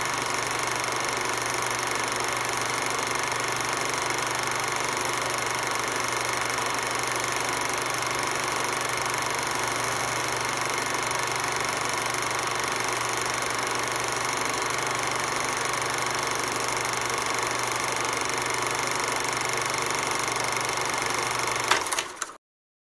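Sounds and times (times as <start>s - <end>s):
film projector whirring: 0.0s - 22.4s.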